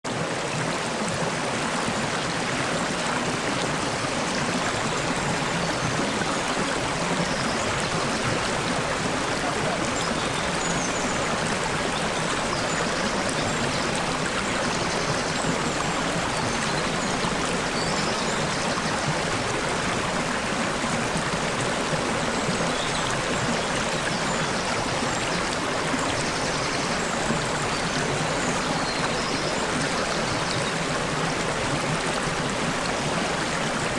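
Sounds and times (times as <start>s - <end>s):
stream babbling over stones: 0.1s - 33.9s.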